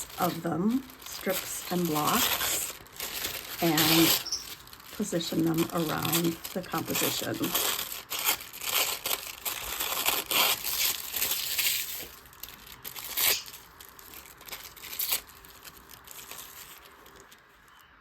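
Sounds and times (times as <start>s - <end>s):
paper tearing: 0.0s - 17.4s
paper crackling and crinkling: 0.0s - 18.0s.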